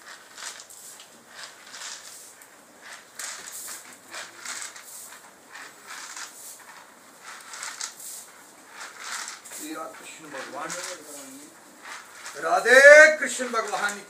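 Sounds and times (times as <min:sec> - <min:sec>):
cattle crunching feed: 0:00.0 - 0:12.4
hooves shuffling: 0:00.0 - 0:14.0.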